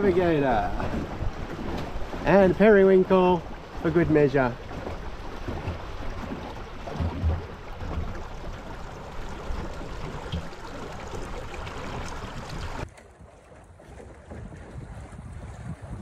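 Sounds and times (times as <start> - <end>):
choppy water washing: 0.0 - 16.0
wind buffeting microphone: 0.0 - 16.0.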